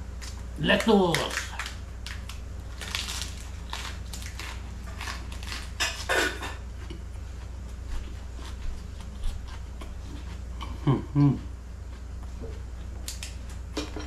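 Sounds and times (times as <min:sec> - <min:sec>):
crunchy biting and chewing: 0:00.1 - 0:12.2.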